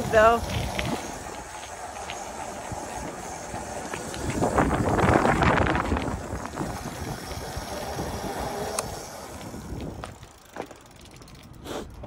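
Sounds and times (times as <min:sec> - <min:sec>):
electric scooter rolling on concrete: 0:00.0 - 0:12.0
wheels and frame rattling: 0:00.0 - 0:12.0.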